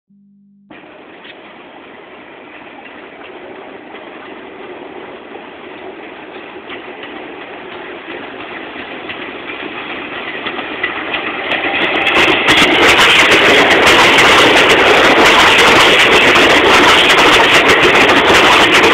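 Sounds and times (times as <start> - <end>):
subway train approaching on rails: 0.7 - 18.9.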